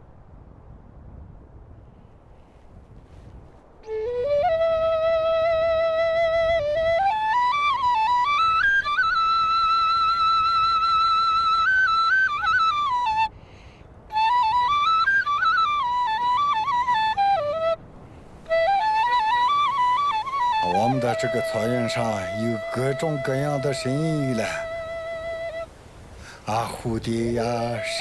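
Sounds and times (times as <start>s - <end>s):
solo flute melody: 3.8s - 13.4s, 14.0s - 28.0s.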